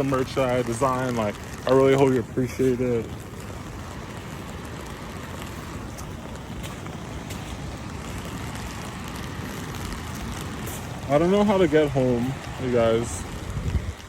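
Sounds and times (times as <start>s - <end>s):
heavy rain: 0.0s - 14.0s
wind rumbling on microphone: 0.0s - 14.0s.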